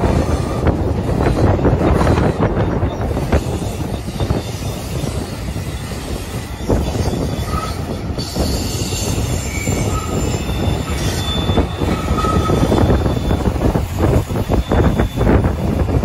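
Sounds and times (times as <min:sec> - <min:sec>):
train wheels rumbling on rails: 0:00.0 - 0:16.0
high wheel squeals: 0:00.1 - 0:16.0.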